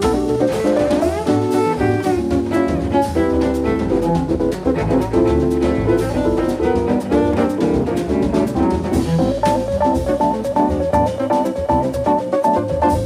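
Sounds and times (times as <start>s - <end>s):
bowed cello: 0.0s - 12.2s
drum kit: 0.0s - 13.0s
piano: 0.0s - 13.0s.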